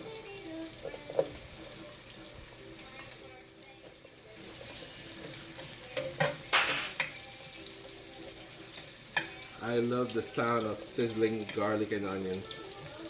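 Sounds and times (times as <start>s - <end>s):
garlic and onion sizzling in oil: 0.0s - 13.0s.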